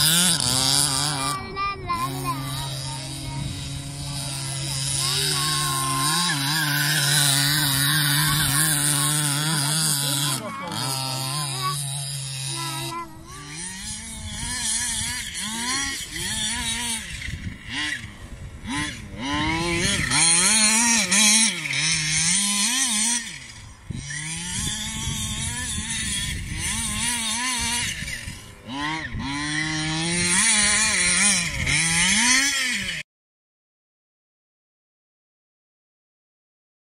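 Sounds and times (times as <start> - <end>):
two-stroke engine revving: 0.0 - 33.0.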